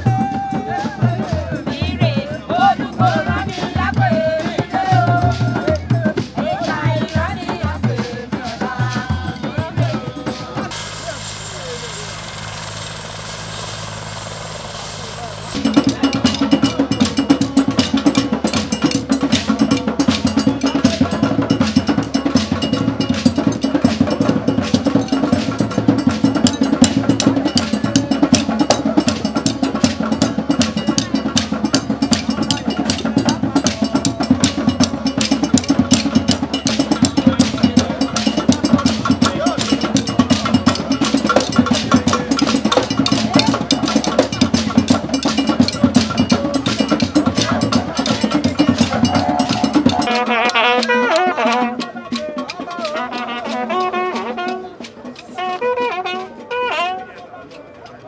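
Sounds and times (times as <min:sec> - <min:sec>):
drum ensemble playing fast rhythm: 0:00.0 - 0:58.0.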